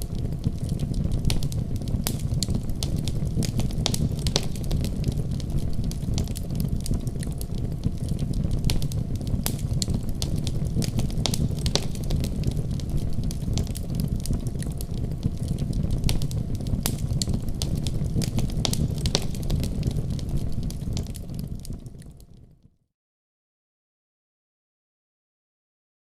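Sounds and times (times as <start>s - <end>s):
sharp pops from fire: 0.0s - 22.5s
low rumble of flames: 0.0s - 22.7s
wood fire crackling: 0.0s - 22.7s.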